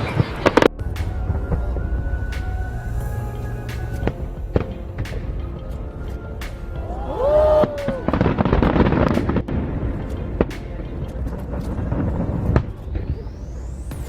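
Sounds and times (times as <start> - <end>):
firework bangs: 0.0 - 5.8, 6.4 - 14.0
fireworks crackling: 0.0 - 14.0.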